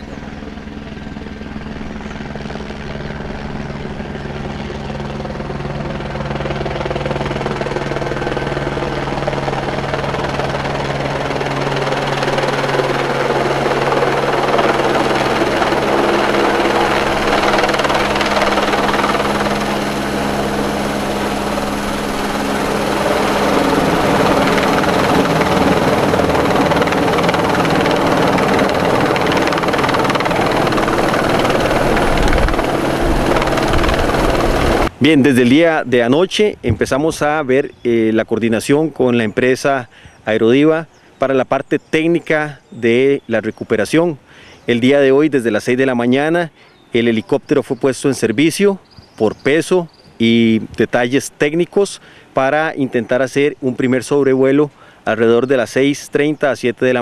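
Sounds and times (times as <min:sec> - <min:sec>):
helicopter flying overhead: 0:00.0 - 0:57.0.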